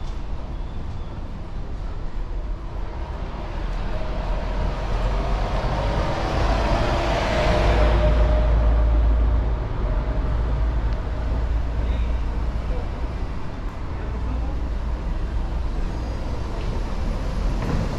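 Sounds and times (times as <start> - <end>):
vehicle engine rumble and whine: 0.0 - 17.9.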